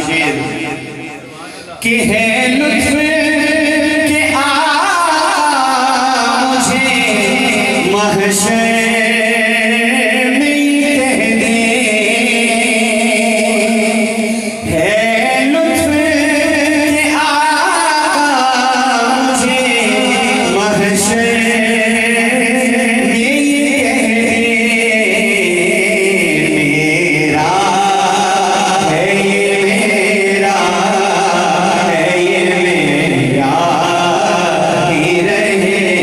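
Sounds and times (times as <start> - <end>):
man singing into a microphone: 0.0 - 36.0.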